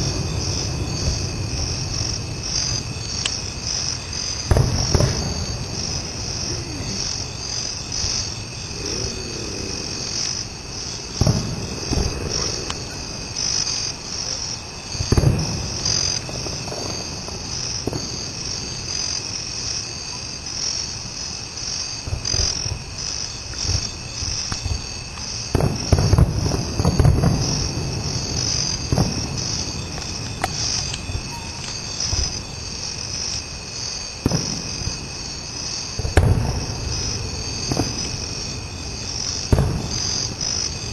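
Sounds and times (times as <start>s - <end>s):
distant fireworks booming: 0.0s - 19.9s, 21.6s - 40.9s
night insects chirring: 0.0s - 40.9s.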